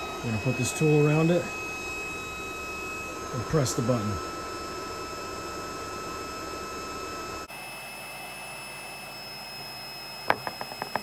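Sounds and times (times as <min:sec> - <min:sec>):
induction heater hissing and whining: 0:00.0 - 0:11.0.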